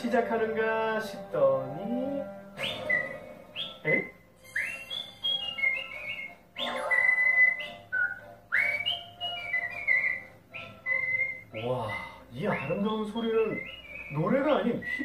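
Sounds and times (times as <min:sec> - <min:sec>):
man whistling a melody: 0:02.6 - 0:15.0.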